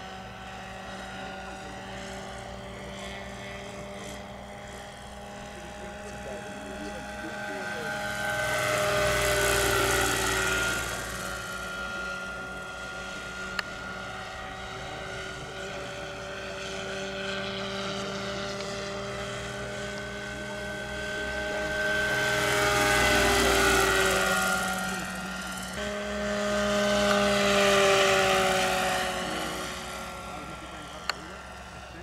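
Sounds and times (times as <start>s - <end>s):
model helicopter whine: 0.0s - 32.0s.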